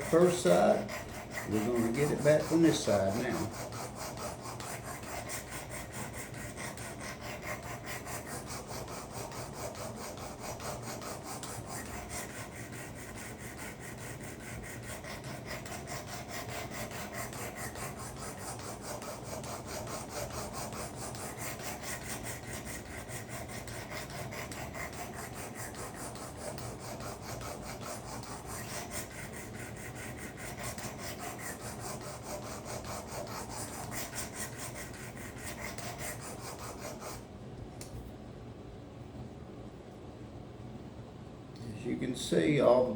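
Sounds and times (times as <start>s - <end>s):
sharpening stone rasping on blade: 0.0s - 37.1s.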